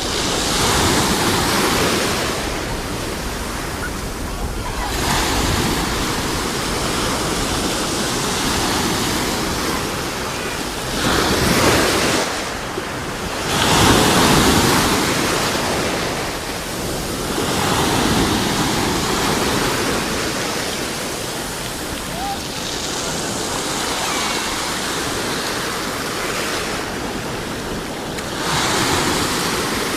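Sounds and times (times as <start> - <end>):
sea waves breaking: 0.0 - 29.9.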